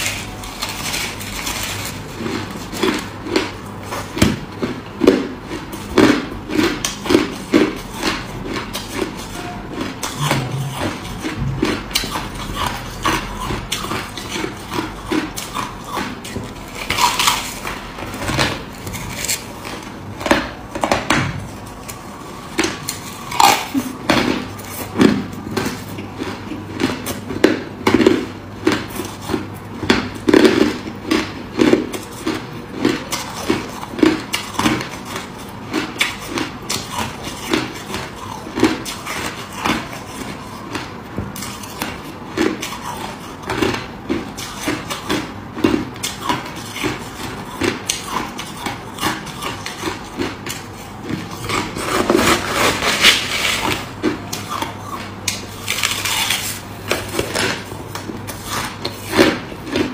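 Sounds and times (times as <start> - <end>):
crushed ice being chewed: 0.0 - 20.0, 21.6 - 59.9.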